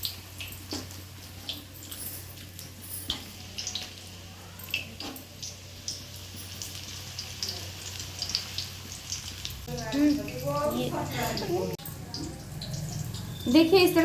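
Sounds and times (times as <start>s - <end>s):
batter sizzling in hot oil: 0.0s - 14.0s.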